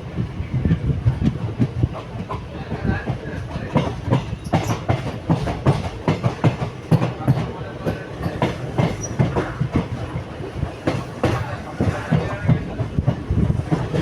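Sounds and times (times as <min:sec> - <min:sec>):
train rumble: 0:00.0 - 0:14.0
wheels clacking over rail joints: 0:01.2 - 0:14.0.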